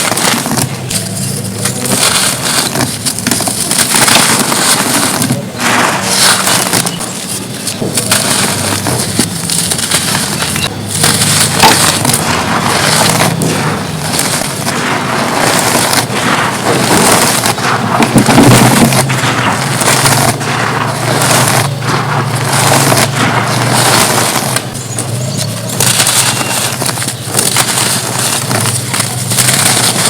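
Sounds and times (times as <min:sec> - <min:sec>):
dry dirt being crushed: 0:00.0 - 0:30.0.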